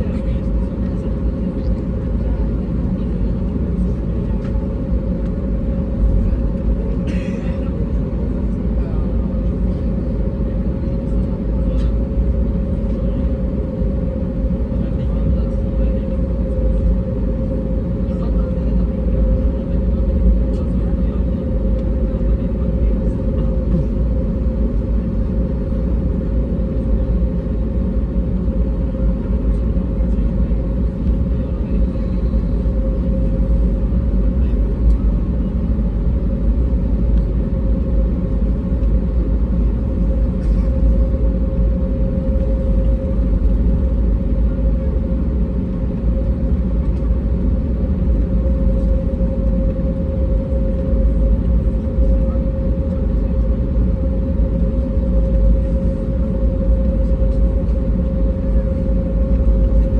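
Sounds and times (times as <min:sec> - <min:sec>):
airplane cabin rumble: 0:00.0 - 0:59.9
steady hum tone: 0:00.0 - 0:59.9.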